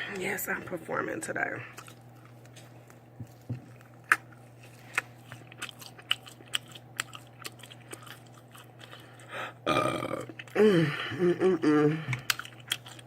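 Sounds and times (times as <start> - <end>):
faint steady hum: 0.0 - 13.0
person chewing food: 1.7 - 10.8, 11.5 - 13.0.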